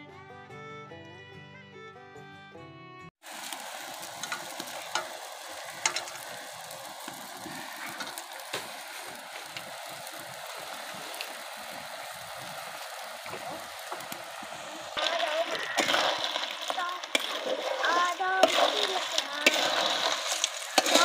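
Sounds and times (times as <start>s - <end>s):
food sizzling in hot oil: 3.2s - 21.0s.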